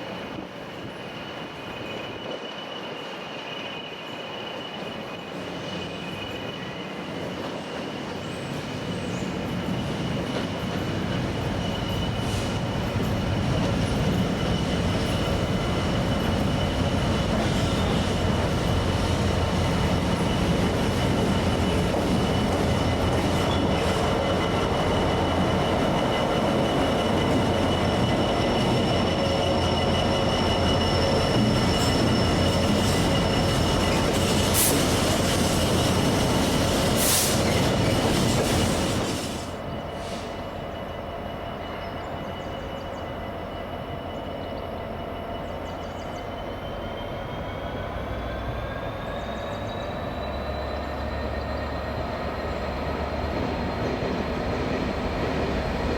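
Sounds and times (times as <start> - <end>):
train rolling on tracks: 0.0 - 55.9
high-pitched squeals: 8.4 - 55.9.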